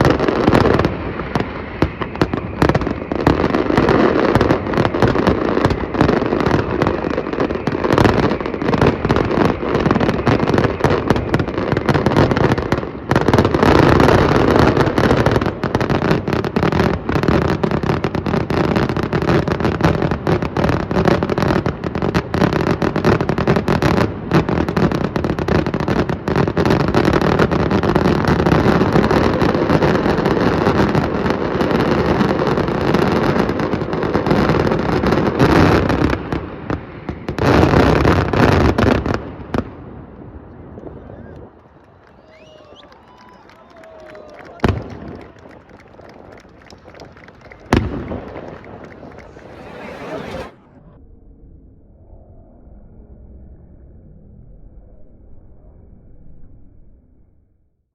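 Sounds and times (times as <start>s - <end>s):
fireworks bangs and crackle: 0.0s - 50.8s.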